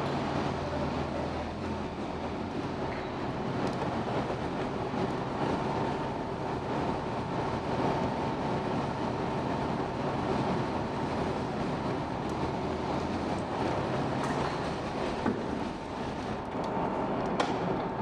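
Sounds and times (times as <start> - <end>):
low machinery rumble and hum: 0.0 - 18.0.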